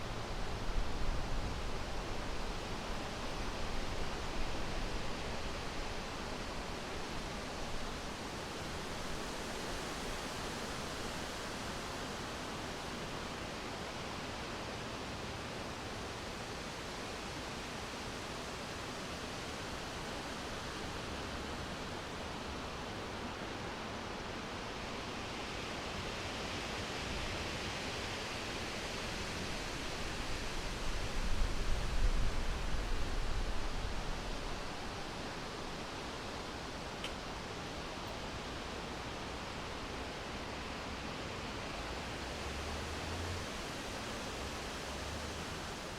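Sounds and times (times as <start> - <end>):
wind rushing through leaves: 0.0 - 45.9.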